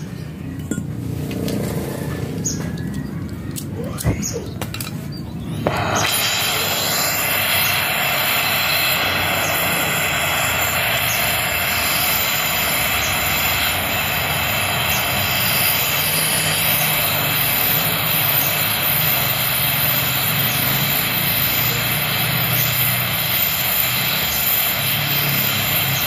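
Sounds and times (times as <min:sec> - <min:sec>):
torch flame roaring: 0:00.7 - 0:26.0.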